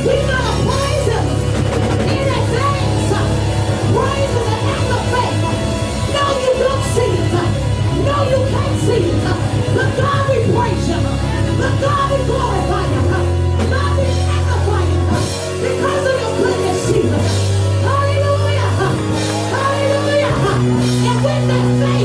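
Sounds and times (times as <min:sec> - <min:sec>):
band holding bass chords: 0:00.0 - 0:22.0.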